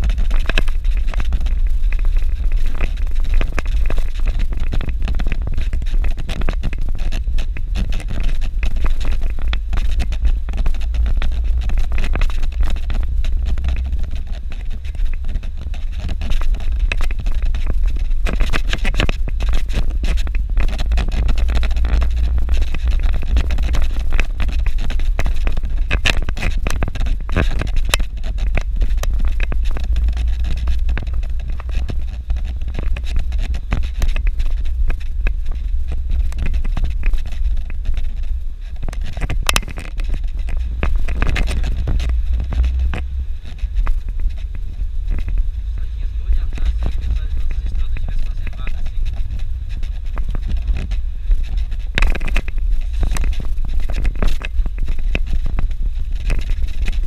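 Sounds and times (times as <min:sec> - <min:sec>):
car rumbling on dirt road: 0:00.0 - 0:57.0.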